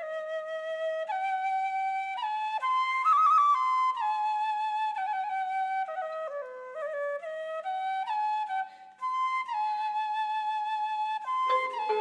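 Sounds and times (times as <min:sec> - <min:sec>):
solo flute melody: 0:00.0 - 0:12.0.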